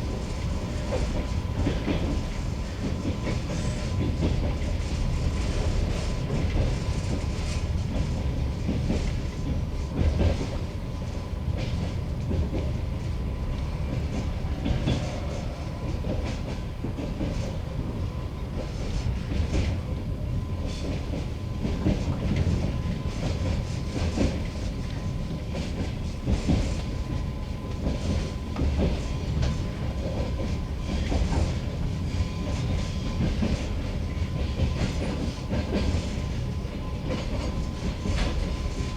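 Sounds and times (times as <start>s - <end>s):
train wheels clattering: 0.0s - 38.9s.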